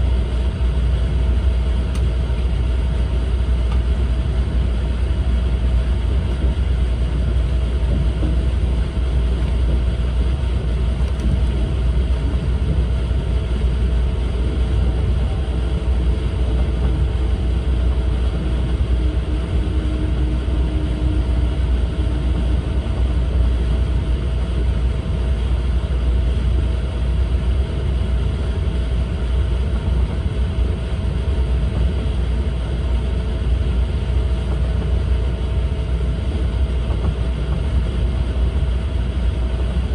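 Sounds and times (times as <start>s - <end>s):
faint steady hum: 0.0s - 39.9s
train cabin rumble: 0.0s - 39.9s.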